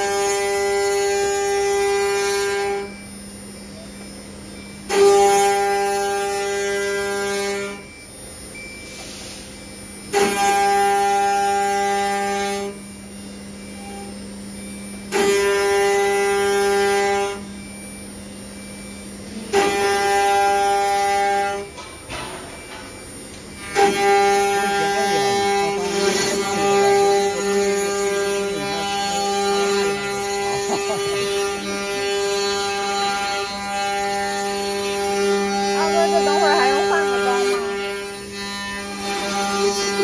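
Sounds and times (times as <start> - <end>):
router cutters whining into wood: 0.0 - 8.0, 10.0 - 13.0, 13.6 - 17.9, 18.6 - 40.0
machine hum: 0.0 - 40.0.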